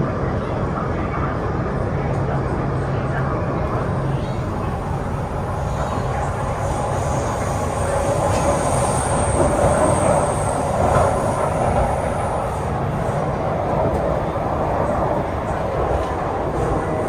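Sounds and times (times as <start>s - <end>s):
metro train rumbling at speed: 0.0s - 17.0s.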